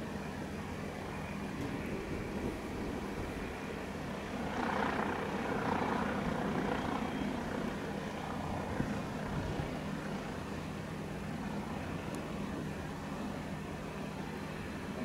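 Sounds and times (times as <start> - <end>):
jet engines landing: 0.0 - 15.0.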